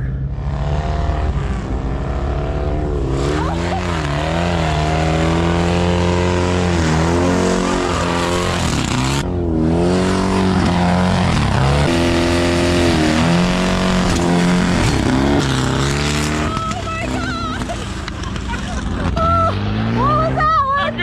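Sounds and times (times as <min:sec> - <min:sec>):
dune buggy engine revving: 0:00.0 - 0:21.0.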